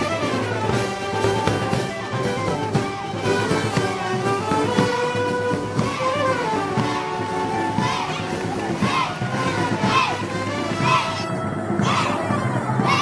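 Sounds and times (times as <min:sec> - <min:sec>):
brass band playing a march: 0:00.0 - 0:13.0
drum beat: 0:00.0 - 0:13.0.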